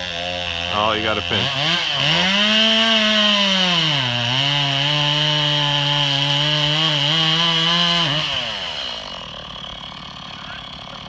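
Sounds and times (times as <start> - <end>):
chainsaw cutting under load: 0.0 - 11.0.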